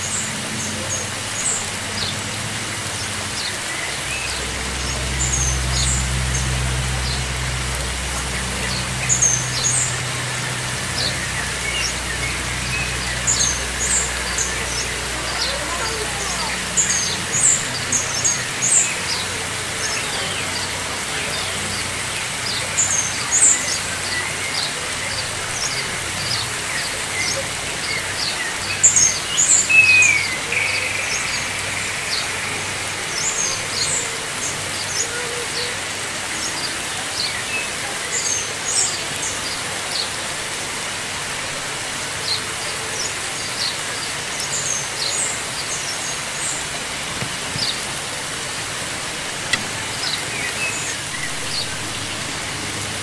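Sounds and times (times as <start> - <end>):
running water hiss: 0.0 - 53.0
small birds chirping: 0.0 - 53.0.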